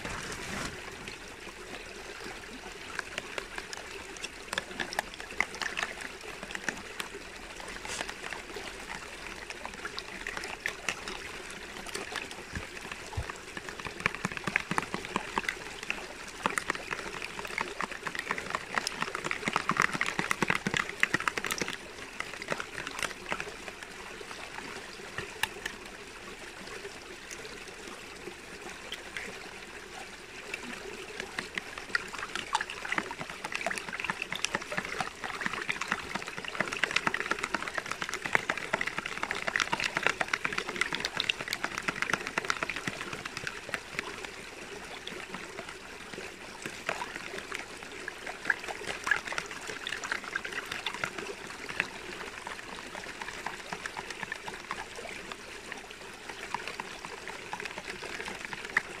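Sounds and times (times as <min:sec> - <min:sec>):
water trickling and babbling: 0:00.0 - 0:59.0.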